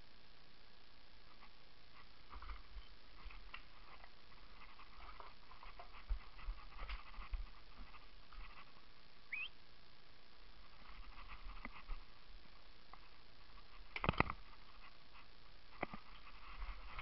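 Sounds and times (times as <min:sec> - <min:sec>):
faint rustling of brush: 0:01.2 - 0:09.5, 0:10.5 - 0:17.0.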